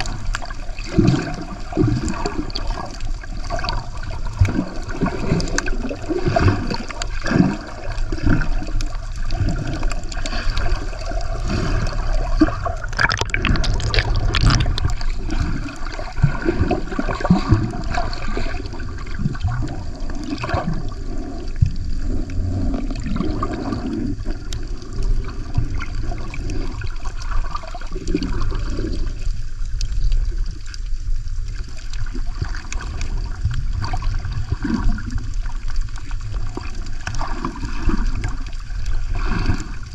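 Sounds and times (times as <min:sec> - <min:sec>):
bubbling: 0:00.0 - 0:39.9
water sloshing and gurgling: 0:00.0 - 0:39.9.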